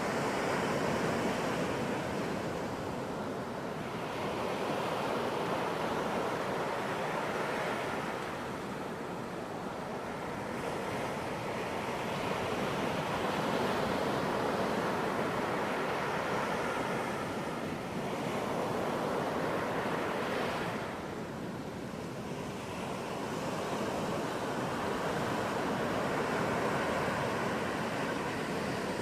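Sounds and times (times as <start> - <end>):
waves breaking on a beach: 0.0 - 29.0.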